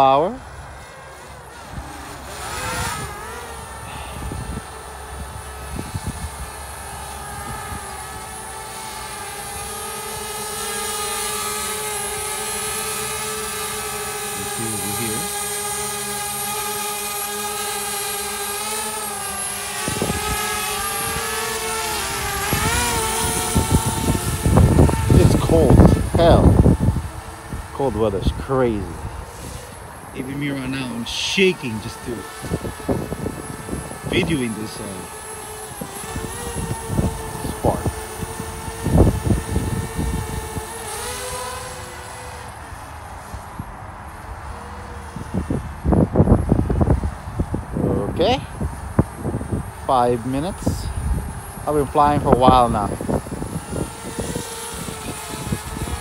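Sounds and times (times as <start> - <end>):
wind rumbling on microphone: 0.0 - 10.8, 11.4 - 56.0
drone propellers whining: 0.0 - 56.0.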